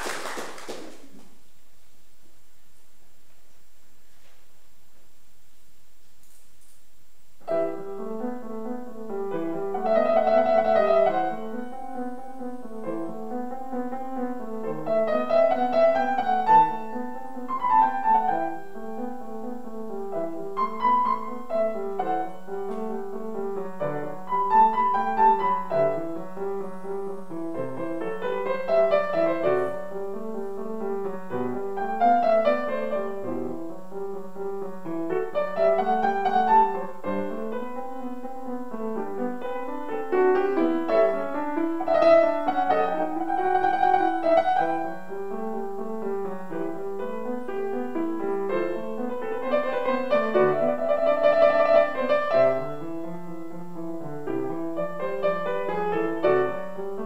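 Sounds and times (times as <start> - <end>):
classical grand piano piece: 0.0 - 57.0.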